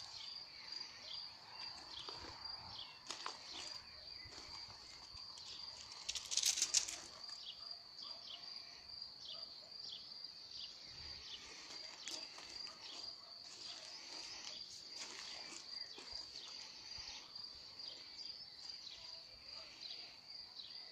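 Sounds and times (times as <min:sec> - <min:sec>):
crickets chirring: 0:00.0 - 0:20.9.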